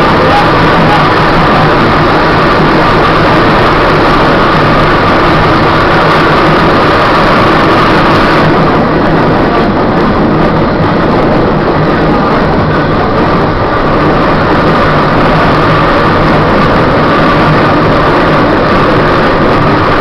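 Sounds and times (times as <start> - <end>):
trolley car wheels on rails: 0.0 - 20.0.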